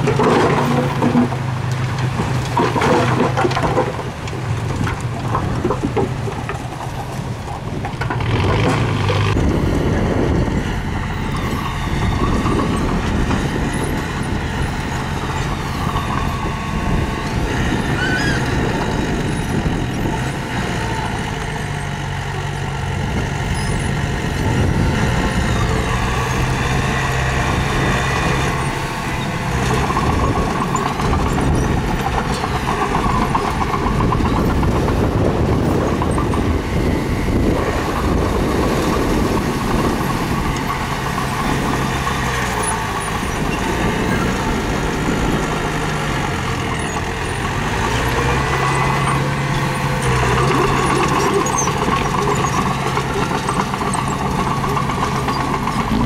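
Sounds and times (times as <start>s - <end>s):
heavy machinery engine under load: 0.0s - 56.0s.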